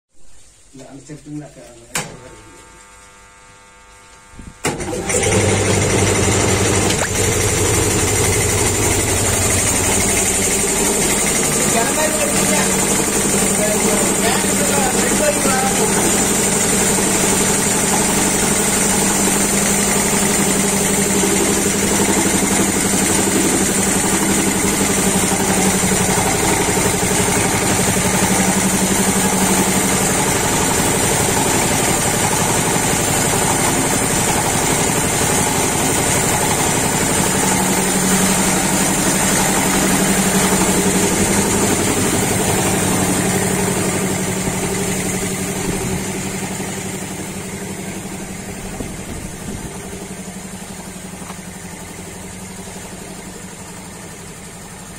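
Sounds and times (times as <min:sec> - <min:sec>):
air compressor pulsing: 0:04.4 - 0:54.9.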